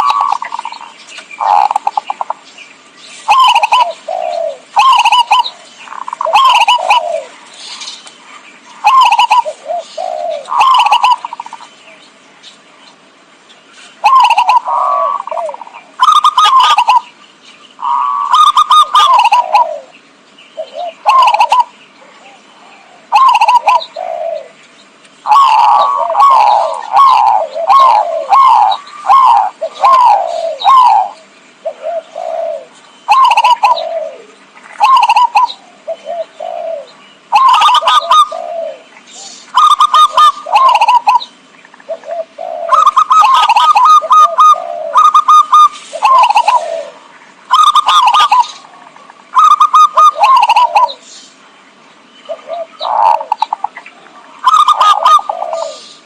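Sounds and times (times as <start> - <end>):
dove cooing: 0.0 - 2.4, 3.2 - 8.0, 8.6 - 11.8, 14.0 - 17.1, 17.8 - 20.0, 20.6 - 24.6, 25.2 - 51.1, 52.3 - 56.0.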